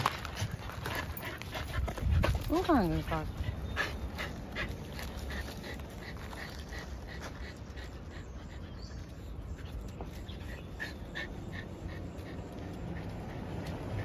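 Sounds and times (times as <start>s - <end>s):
dogs whimpering and panting: 0.1s - 14.0s.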